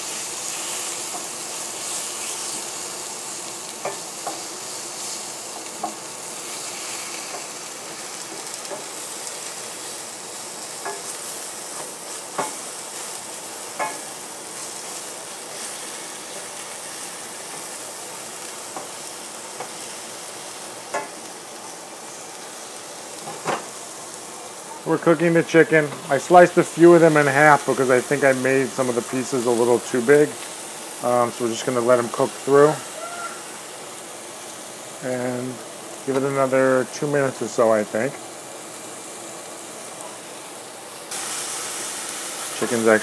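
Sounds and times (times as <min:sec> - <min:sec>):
chicken sizzling in oil: 0:00.0 - 0:43.0.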